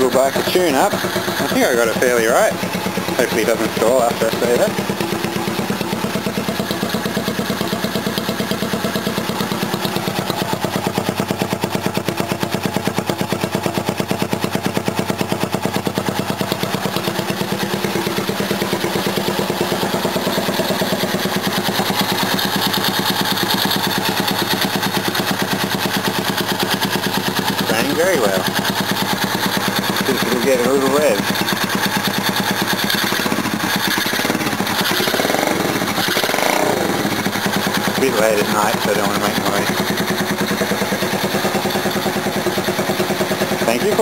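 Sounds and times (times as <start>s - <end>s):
mini bike engine idling: 0.0s - 44.0s.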